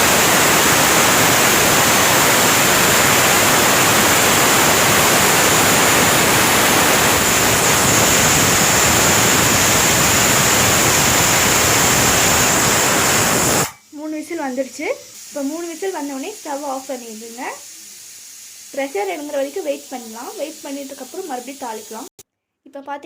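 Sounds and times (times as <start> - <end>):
pressure cooker whistling: 0.0 - 13.8, 14.6 - 22.1.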